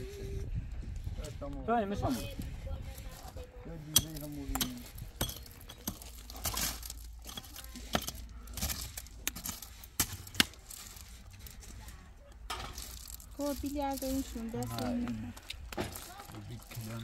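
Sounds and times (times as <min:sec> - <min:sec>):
stones clinking and scraping: 0:02.1 - 0:17.0.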